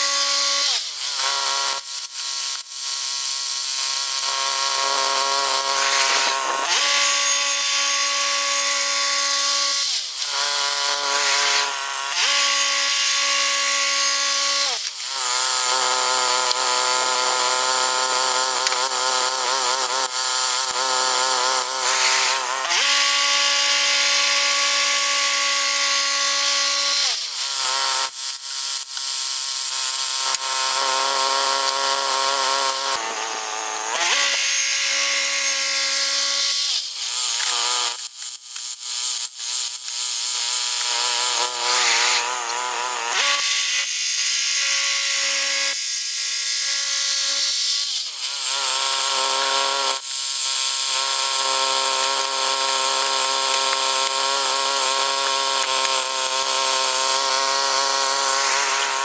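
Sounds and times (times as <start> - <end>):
band blade cutting wood: 3.7 - 38.2, 39.6 - 45.8, 47.1 - 59.0.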